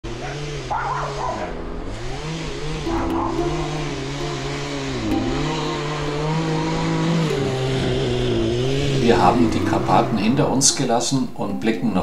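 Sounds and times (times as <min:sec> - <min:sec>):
chainsaw cutting logs: 0:00.1 - 0:10.8.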